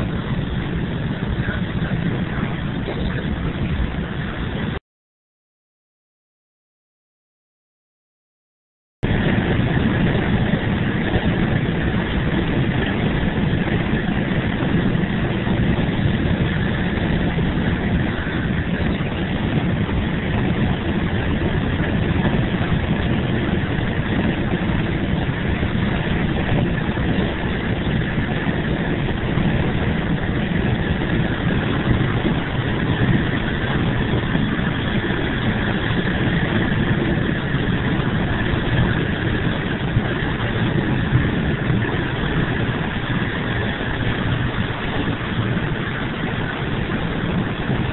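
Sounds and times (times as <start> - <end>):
bus engine and road noise: 0.0 - 4.8, 9.0 - 47.9.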